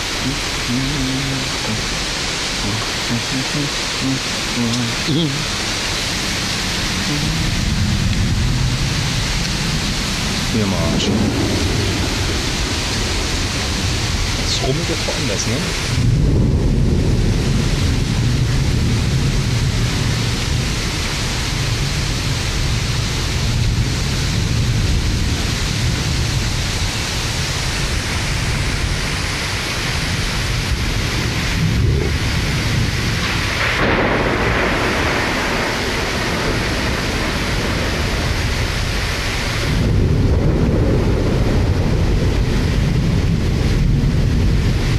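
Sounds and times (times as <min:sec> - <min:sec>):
heavy rain downpour: 0:00.0 - 0:44.9
low rumble of thunder: 0:05.8 - 0:44.9.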